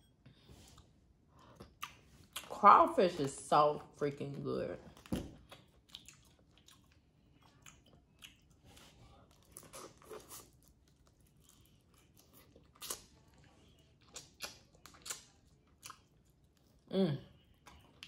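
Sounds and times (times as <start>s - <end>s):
chewing: 0.6s - 2.5s, 4.9s - 18.0s.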